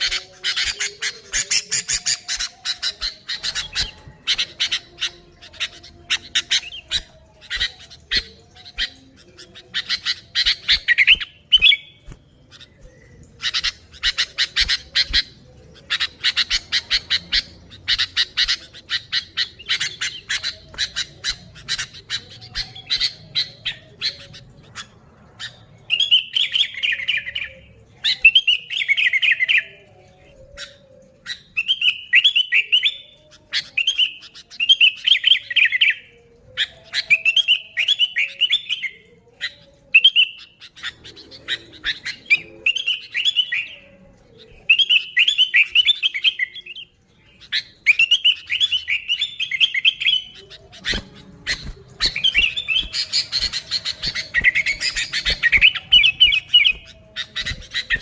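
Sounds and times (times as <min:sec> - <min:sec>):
bird warbled song: 0:00.0 - 0:58.0
birds harsh chattering: 0:00.0 - 0:58.0.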